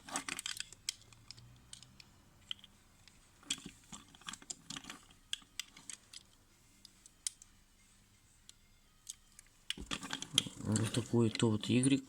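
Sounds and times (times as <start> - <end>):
plastic toy parts clicking: 0.0 - 7.5, 8.4 - 11.9.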